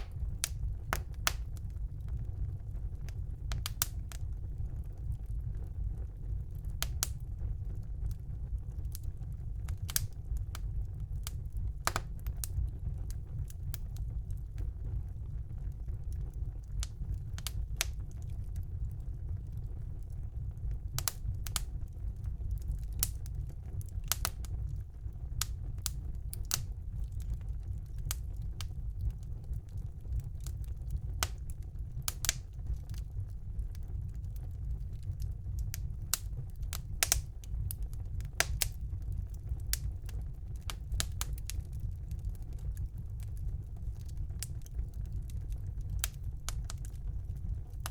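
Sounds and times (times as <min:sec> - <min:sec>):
burning logs crackling and popping: 0:00.0 - 0:47.9
flames rumbling: 0:00.0 - 0:47.9.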